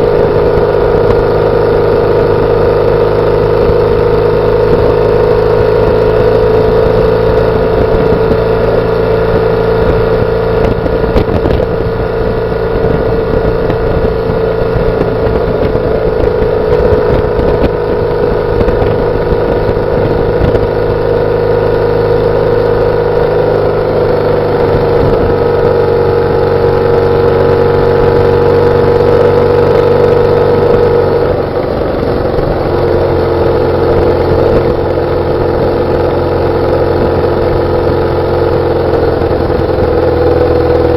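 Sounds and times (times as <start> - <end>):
motorcycle engine and exhaust running: 0.0 - 40.9.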